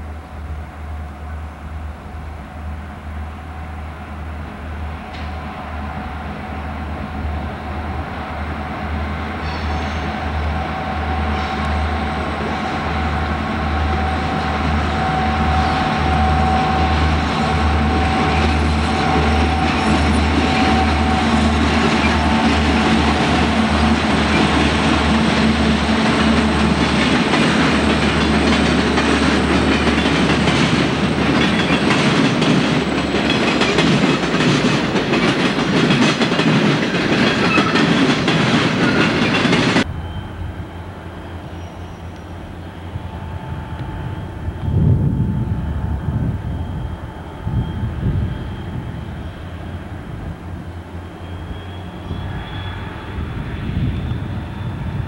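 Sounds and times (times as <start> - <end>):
diesel locomotives passing: 0.0 - 55.0.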